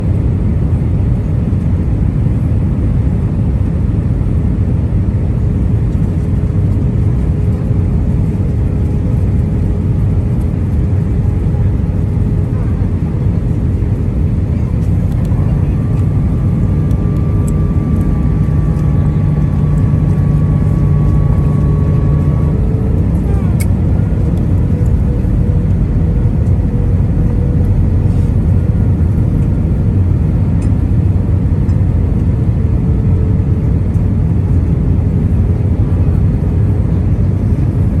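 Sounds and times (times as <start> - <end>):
aircraft engine rumble: 0.0 - 38.0
faint engine whine: 0.0 - 38.0.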